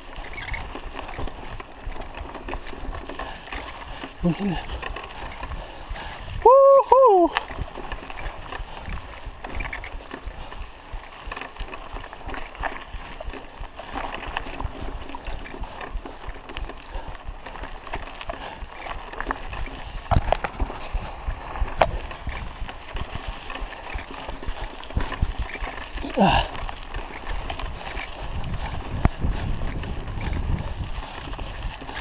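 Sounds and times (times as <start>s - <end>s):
mountain bike rattling: 0.0s - 32.0s.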